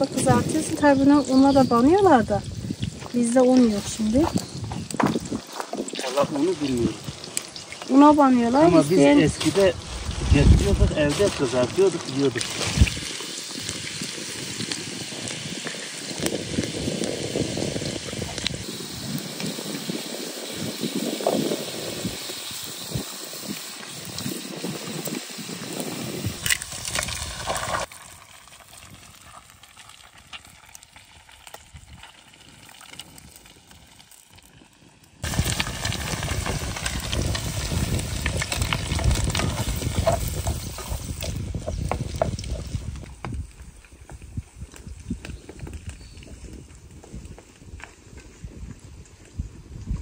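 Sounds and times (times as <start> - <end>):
butter sizzling in a pan: 0.0 - 43.6.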